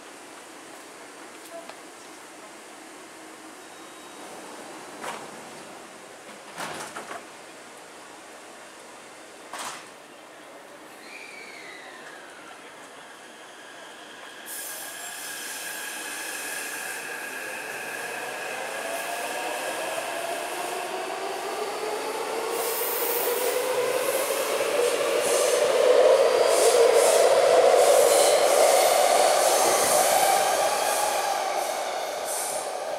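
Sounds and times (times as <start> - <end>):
rail and wheel noise: 0.0 - 32.9.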